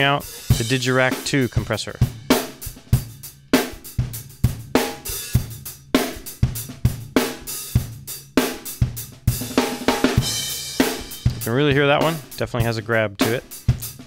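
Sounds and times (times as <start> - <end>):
acoustic drum kit beat: 0.0 - 14.0.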